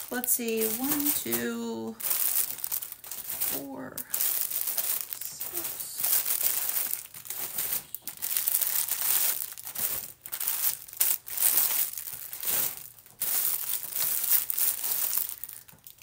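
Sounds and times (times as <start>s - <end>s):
packets rustling and crinkling: 0.0s - 16.0s.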